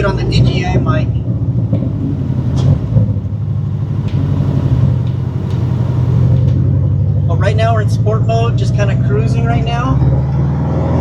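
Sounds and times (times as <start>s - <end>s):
turbo intake noise: 0.0s - 9.9s
car engine cruising: 0.0s - 11.0s.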